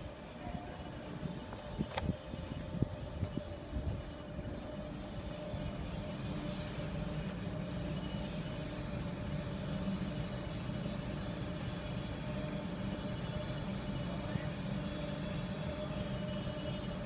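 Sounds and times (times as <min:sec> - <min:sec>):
constant machine whine: 0:00.0 - 0:17.0
machinery low hum: 0:00.0 - 0:17.0.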